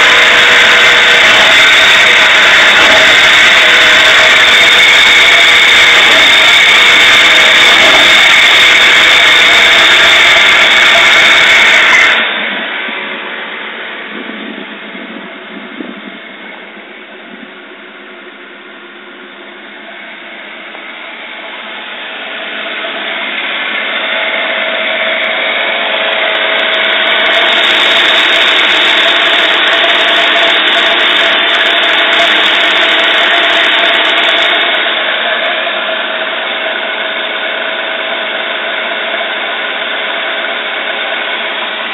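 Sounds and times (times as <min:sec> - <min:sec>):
car engine idling roughly: 0:00.0 - 0:41.9.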